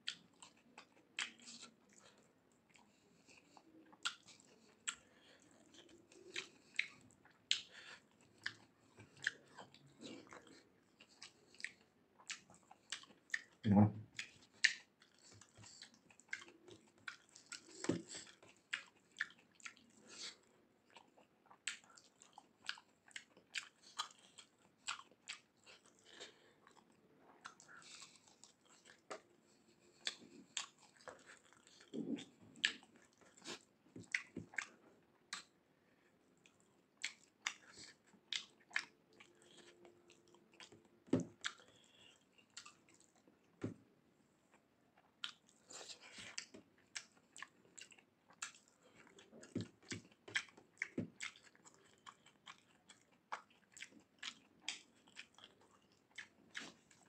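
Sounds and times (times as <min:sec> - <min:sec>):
person chewing: 0:00.0 - 0:43.8, 0:44.4 - 0:57.0.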